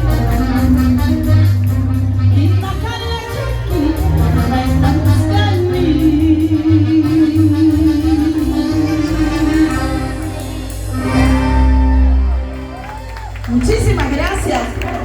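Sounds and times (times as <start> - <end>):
latin band music with singing: 0.0 - 15.0
pulsing bass line: 0.0 - 15.0.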